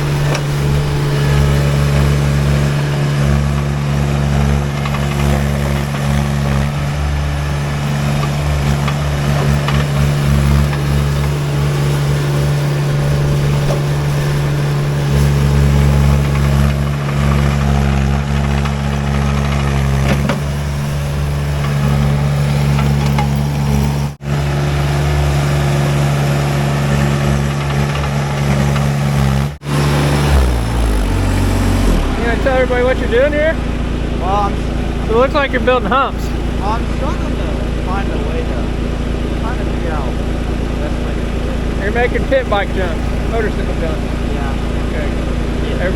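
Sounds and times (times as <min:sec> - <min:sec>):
skid steer engine running: 0:00.0 - 0:45.9.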